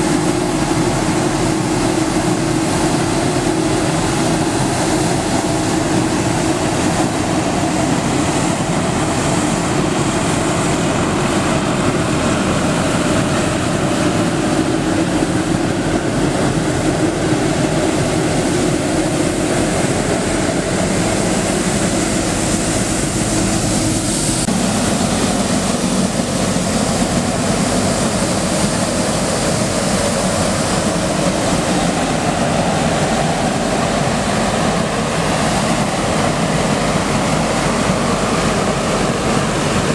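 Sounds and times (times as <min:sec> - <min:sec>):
street sweeper working: 0:00.0 - 0:39.9.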